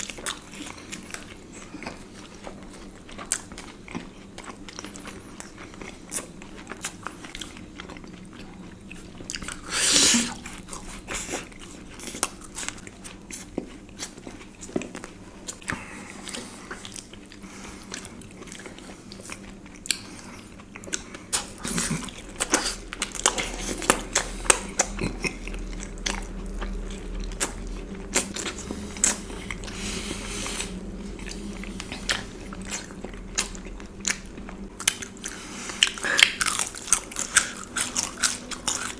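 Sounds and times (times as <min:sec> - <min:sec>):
chewing and biting sweets: 0:00.0 - 0:38.9.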